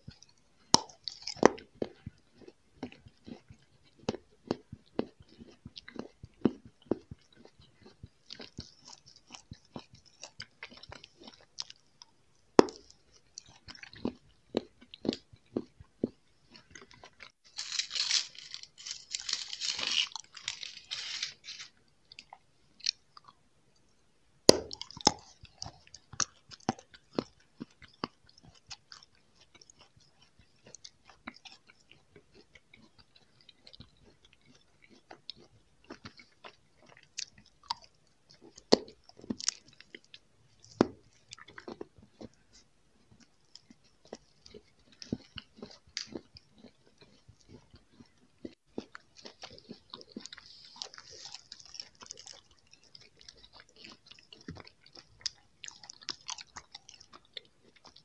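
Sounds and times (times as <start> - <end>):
crunchy chewing: 0.0 - 23.4, 24.5 - 58.0.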